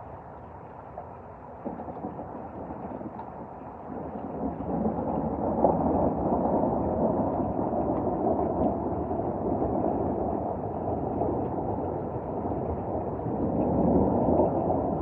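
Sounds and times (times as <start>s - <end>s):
thunderstorm: 1.5s - 15.0s.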